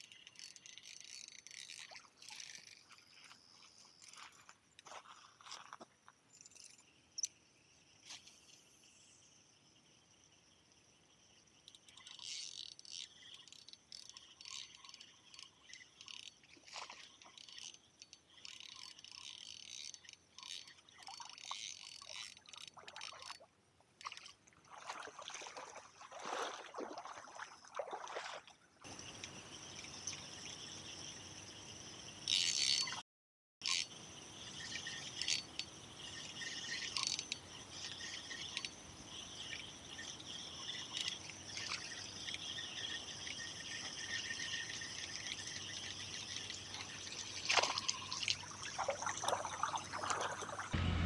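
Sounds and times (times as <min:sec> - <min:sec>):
water splashing and trickling: 0:00.0 - 0:05.8, 0:11.6 - 0:30.4, 0:34.5 - 0:50.8
steady insect drone: 0:00.0 - 0:23.5, 0:28.8 - 0:33.0, 0:33.6 - 0:51.0
crickets chirping: 0:00.0 - 0:33.0, 0:33.6 - 0:50.8.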